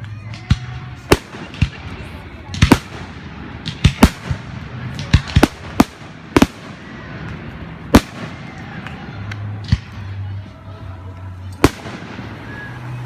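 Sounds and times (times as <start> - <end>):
fireworks bangs: 0.3 - 10.3, 11.6 - 13.0.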